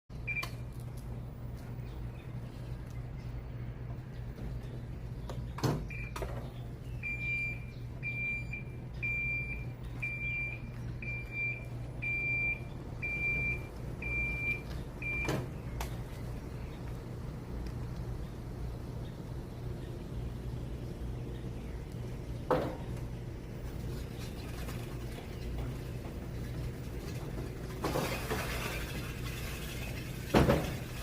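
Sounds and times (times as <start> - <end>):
electric cart humming: 4.6 - 31.0.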